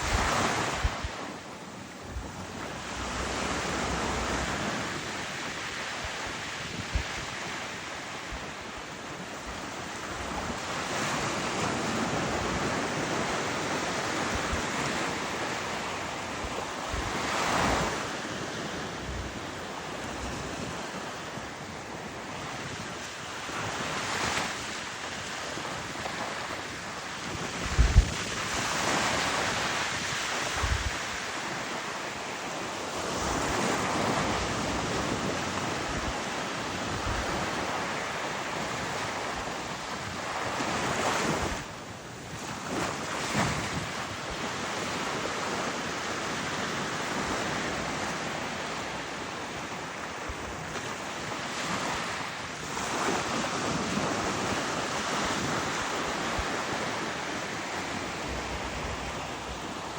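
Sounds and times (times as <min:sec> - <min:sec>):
waves washing in: 0:00.0 - 0:59.9
wind buffeting microphone: 0:00.0 - 0:59.9.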